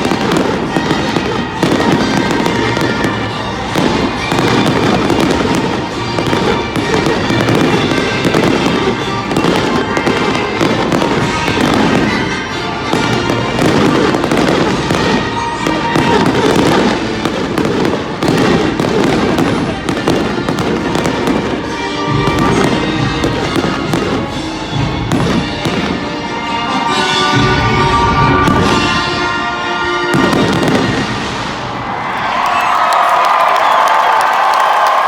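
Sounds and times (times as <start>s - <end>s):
fireworks popping and crackling: 0.0s - 29.3s, 30.0s - 32.7s
music playing: 0.0s - 35.0s.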